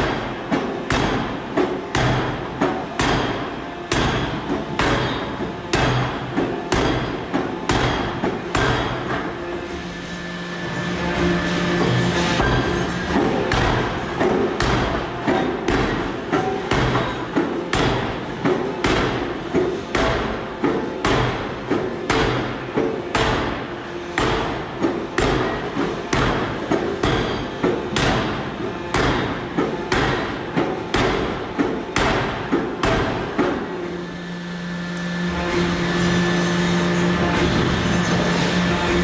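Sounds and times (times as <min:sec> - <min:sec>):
machine striking blows: 0:00.0 - 0:34.1
continuous machine noise: 0:00.0 - 0:39.0.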